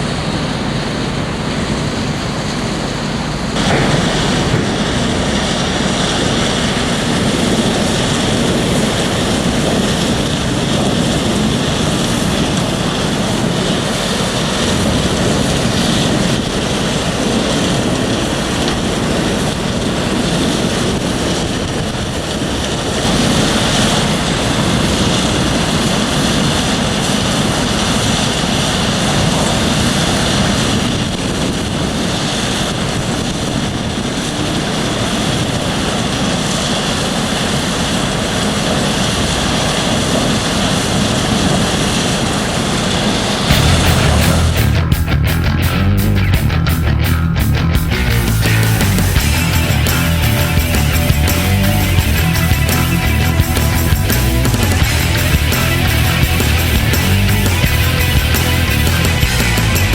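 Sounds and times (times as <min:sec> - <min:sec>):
wood chipper running: 0:00.0 - 0:59.9.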